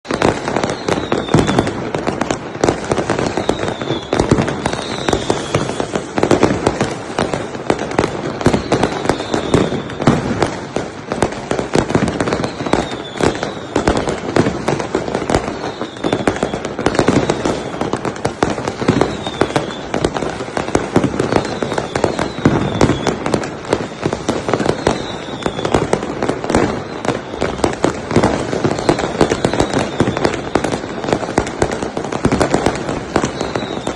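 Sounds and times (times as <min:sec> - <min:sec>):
falling firework whistles: 0:00.0 - 0:33.9
fireworks bangs and crackling: 0:00.0 - 0:33.9.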